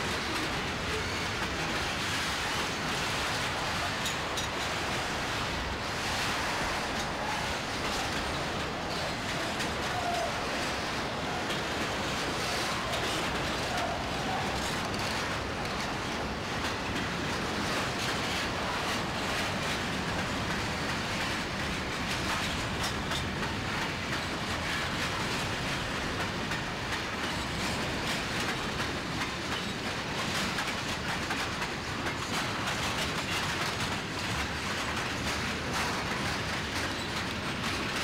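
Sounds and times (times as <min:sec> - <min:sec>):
railroad cars rumbling and rattling: 0:00.0 - 0:38.0
wheels clicking over rail joints: 0:00.0 - 0:38.0.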